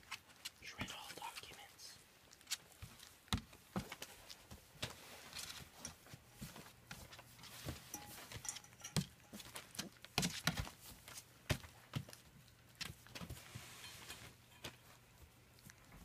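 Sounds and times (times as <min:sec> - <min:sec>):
puppies scuffling and tapping: 0:00.0 - 0:01.5, 0:02.2 - 0:16.0.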